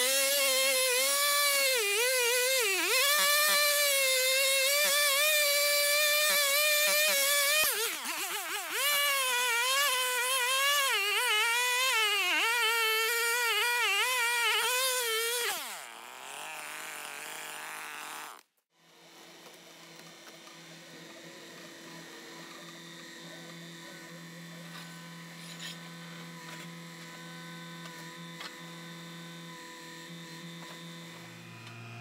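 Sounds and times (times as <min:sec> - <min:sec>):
chainsaw sawing into root: 0:00.0 - 0:18.5, 0:20.5 - 0:32.0.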